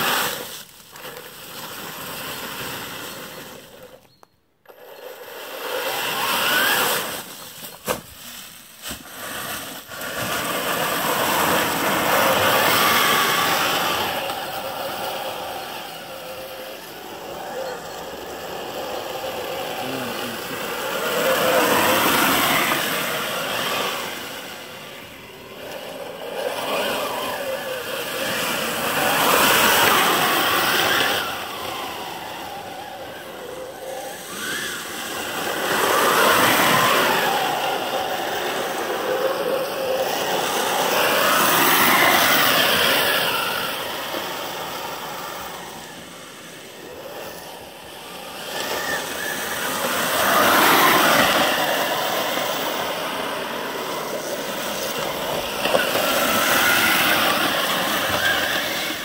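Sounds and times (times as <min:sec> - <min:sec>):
toy tank motors whining: 0:00.0 - 0:59.0.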